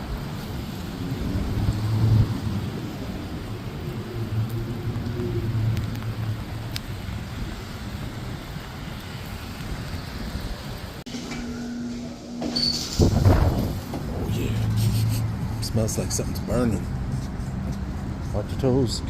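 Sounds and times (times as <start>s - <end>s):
rain: 0.0s - 11.1s, 12.6s - 19.0s
wet-street traffic: 0.0s - 19.0s
passing vehicle engine hum: 0.1s - 9.6s, 13.1s - 19.0s.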